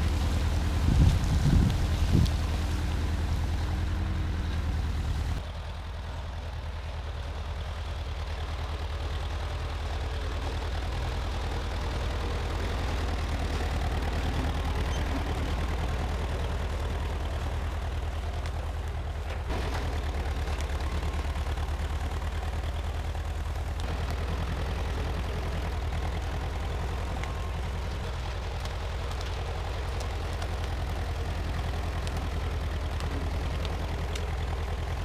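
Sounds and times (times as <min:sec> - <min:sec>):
tractor engine chugging: 0:00.0 - 0:35.0.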